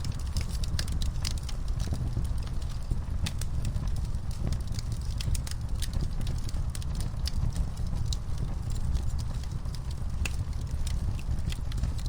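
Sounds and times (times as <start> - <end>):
fire crackling and popping: 0.0 - 12.0
low rumble of fire: 0.0 - 12.0.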